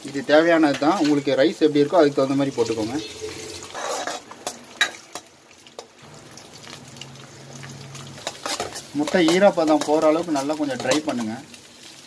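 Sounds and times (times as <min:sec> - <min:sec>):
eggs sizzling in hot oil: 0:00.0 - 0:12.0.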